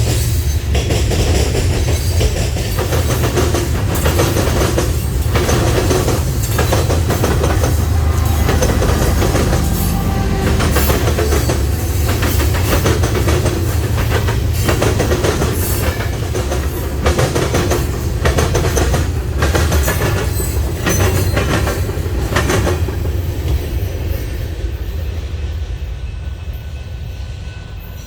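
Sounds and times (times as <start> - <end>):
freight train wheels clacking: 0.0 - 24.8
train rumble: 0.0 - 28.0.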